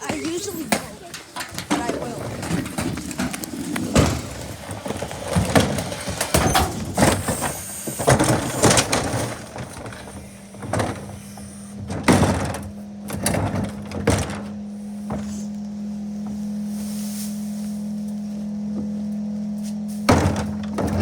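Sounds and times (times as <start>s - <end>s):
trash cans clanking and banging: 0.0s - 16.4s, 17.8s - 21.0s
garbage truck low hum: 0.0s - 21.0s.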